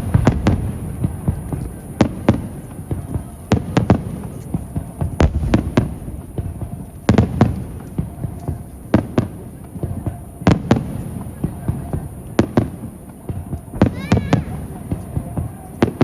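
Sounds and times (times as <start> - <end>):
rumbling echo: 0.0 - 15.7
fireworks bangs: 0.0 - 16.0.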